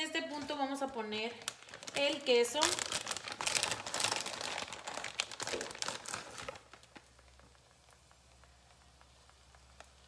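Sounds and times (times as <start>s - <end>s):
plastic bag crinkling: 0.0s - 10.0s
tortillas frying in oil: 0.1s - 10.0s.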